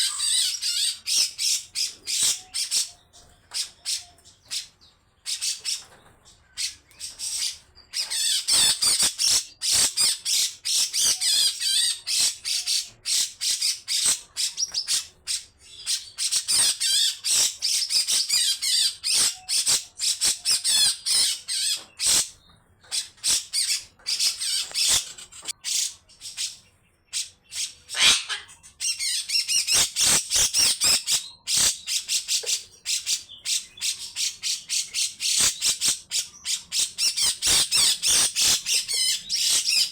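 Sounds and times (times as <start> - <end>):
bulbul harsh chattering calls: 0.0 - 39.9.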